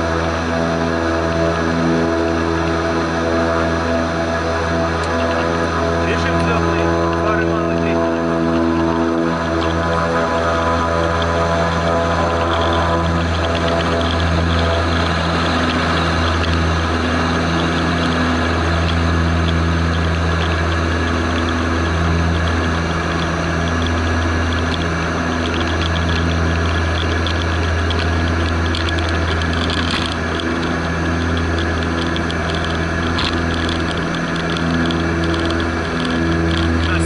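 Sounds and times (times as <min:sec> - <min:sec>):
turboprop engines droning: 0:00.0 - 0:37.0.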